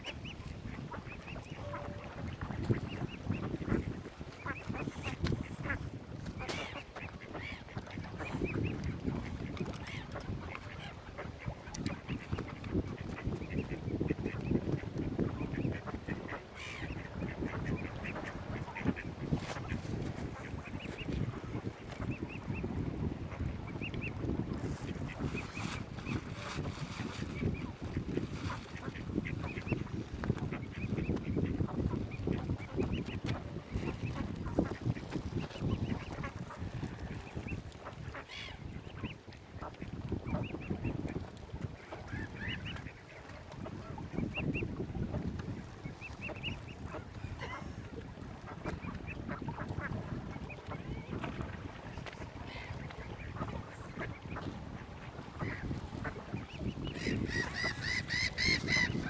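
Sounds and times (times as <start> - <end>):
ducks quacking: 0.0 - 24.1, 24.8 - 41.2, 41.8 - 59.0
waterbirds calling: 0.0 - 59.0.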